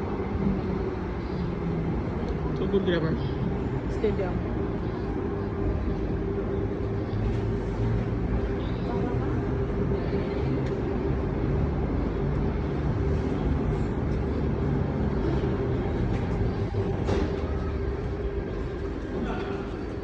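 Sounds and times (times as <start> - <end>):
steady hum: 0.0 - 20.0
train low rumble: 0.0 - 20.0.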